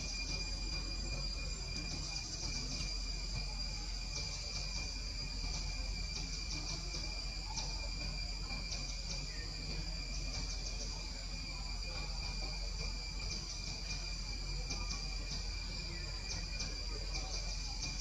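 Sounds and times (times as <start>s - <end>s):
insects trilling: 0.0s - 18.0s
low background rumble: 0.0s - 18.0s.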